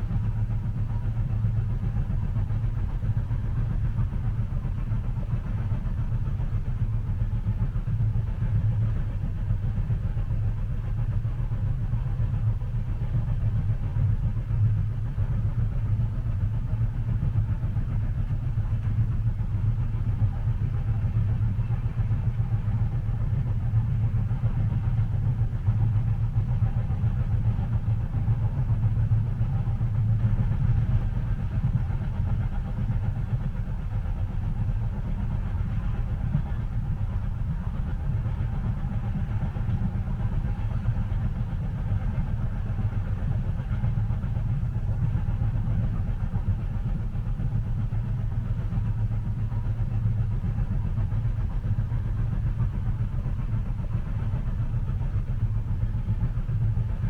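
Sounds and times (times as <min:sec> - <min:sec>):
train rumbling inside carriage: 0:00.0 - 0:57.0.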